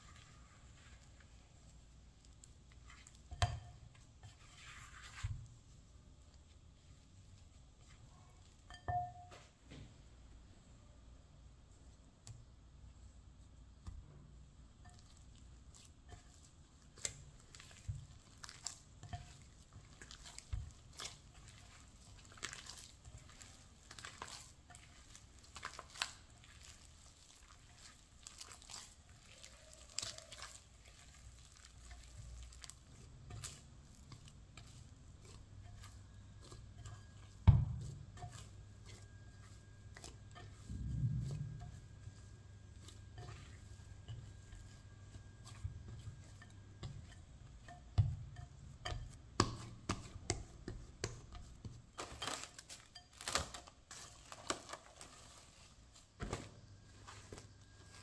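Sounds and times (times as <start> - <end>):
hands kneading sticky dough: 0.0 - 58.0.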